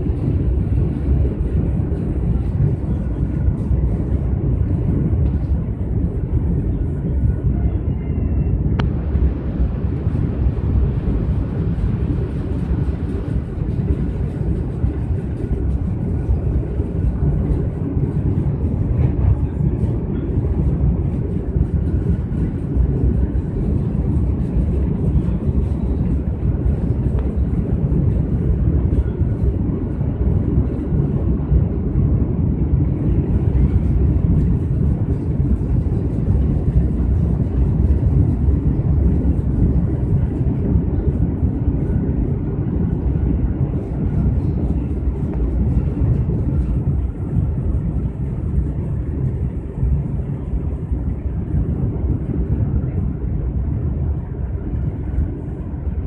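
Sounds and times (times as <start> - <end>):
train carriage low rumble: 0.0 - 56.0.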